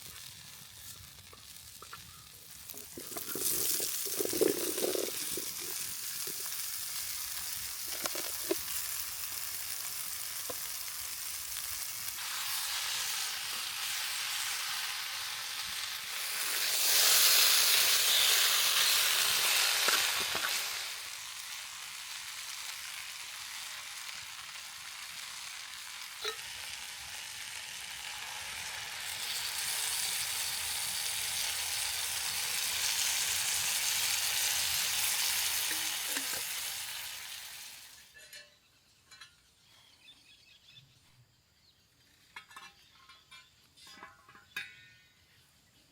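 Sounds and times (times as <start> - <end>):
food sizzling in a skillet: 0.0 - 38.2.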